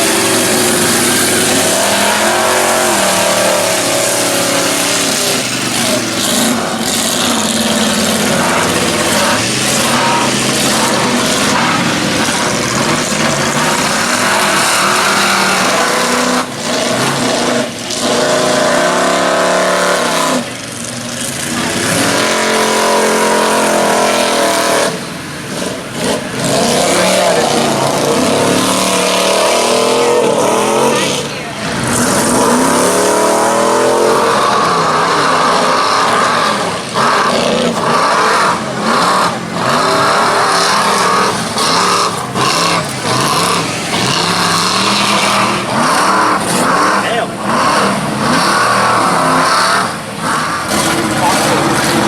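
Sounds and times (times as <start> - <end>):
truck engines at full throttle: 0.0 - 52.0.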